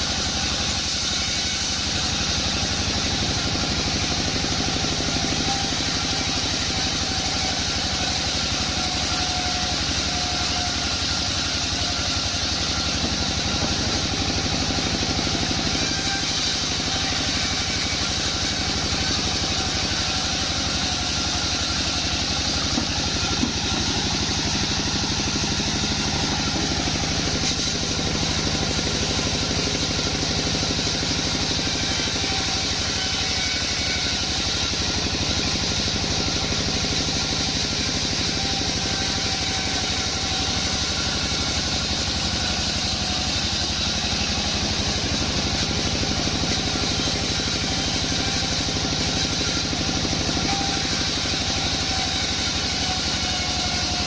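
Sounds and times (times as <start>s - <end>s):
bandsaw machinery running: 0.0s - 54.0s.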